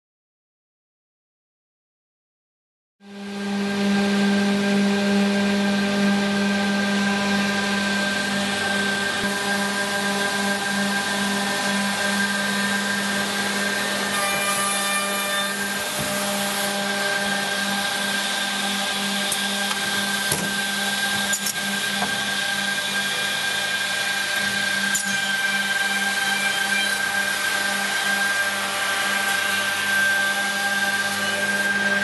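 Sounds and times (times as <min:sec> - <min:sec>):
machine motors humming and whining: 0:03.1 - 0:32.0.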